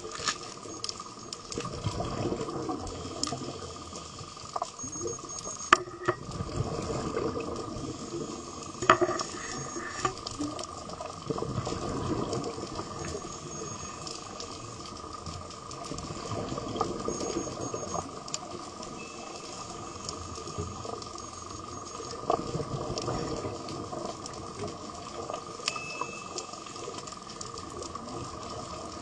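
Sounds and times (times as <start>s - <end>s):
underwater bubbling and gurgling: 0.0s - 29.0s.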